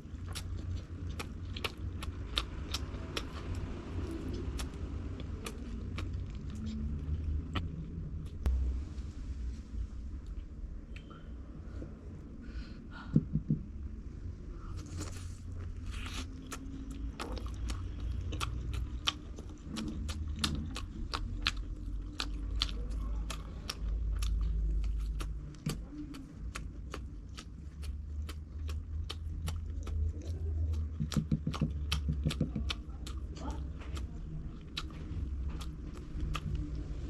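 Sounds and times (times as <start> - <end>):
chewing crisp food crunches: 0.0 - 8.5, 14.8 - 37.0
low rumble: 0.0 - 31.1, 31.7 - 37.0.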